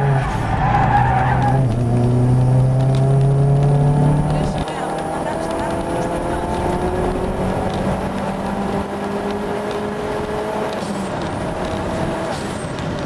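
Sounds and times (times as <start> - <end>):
car engine accelerating: 0.0 - 13.0
road and tyre noise: 0.0 - 13.0.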